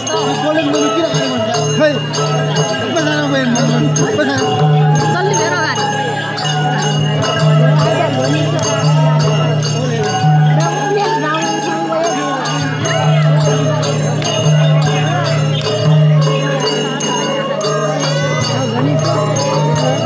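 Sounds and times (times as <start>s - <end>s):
crowd talking and calling: 0.0s - 20.0s
jingling bells: 0.0s - 20.0s.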